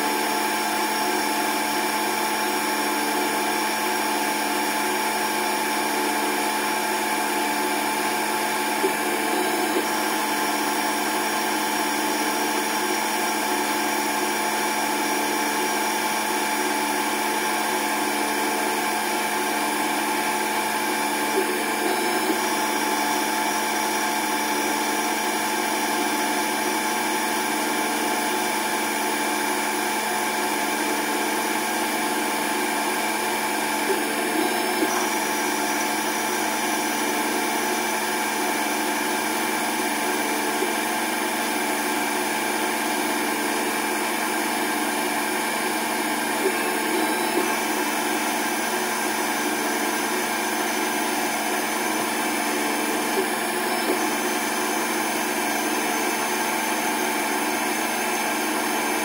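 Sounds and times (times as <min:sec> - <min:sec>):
machine whine: 0:00.0 - 0:59.0
metal cutting noise: 0:04.2 - 0:59.0.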